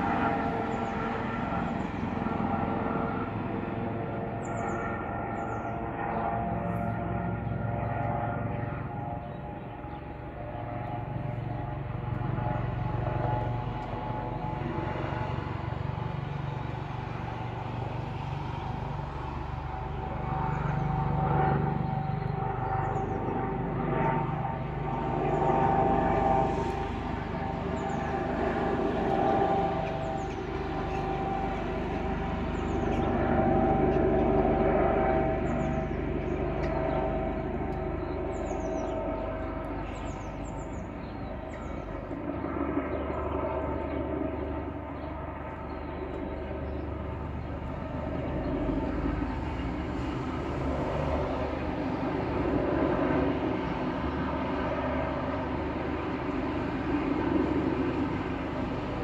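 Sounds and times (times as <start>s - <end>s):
helicopter rotor drone: 0.0s - 59.0s.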